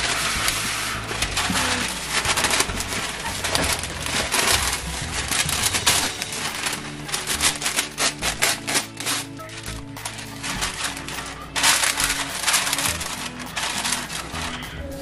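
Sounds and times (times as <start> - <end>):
baking paper rustling and crinkling: 0.0 - 15.0.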